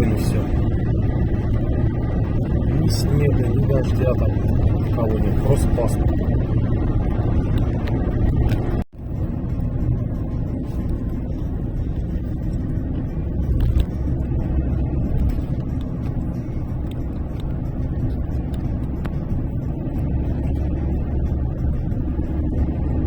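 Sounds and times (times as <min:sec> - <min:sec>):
car driving at road speed: 0:00.0 - 0:23.0.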